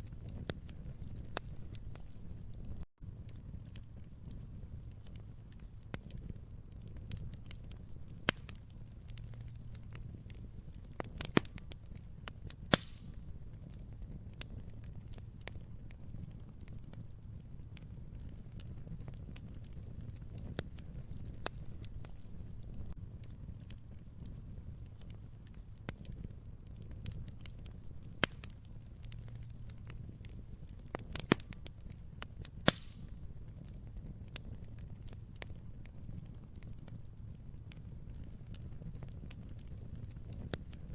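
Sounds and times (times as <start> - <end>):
fire pops and snaps: 0.0 - 40.9
low steady fire rumble: 0.0 - 40.9
wood fire crackling: 0.0 - 40.9.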